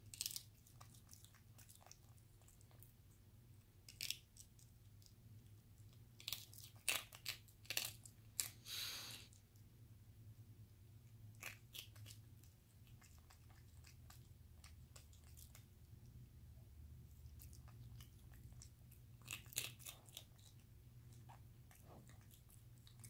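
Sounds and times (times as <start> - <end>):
monkey crunching biscuits: 0.0 - 3.0, 3.8 - 9.4, 11.3 - 15.8, 17.2 - 23.0.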